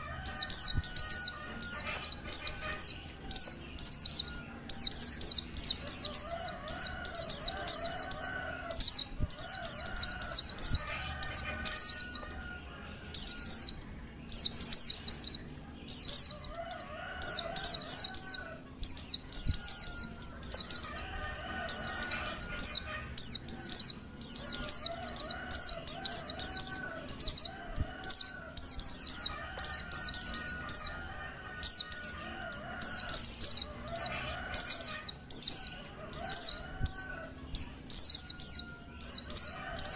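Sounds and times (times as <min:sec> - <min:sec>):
bird high-pitched chirps: 0:00.0 - 0:39.9.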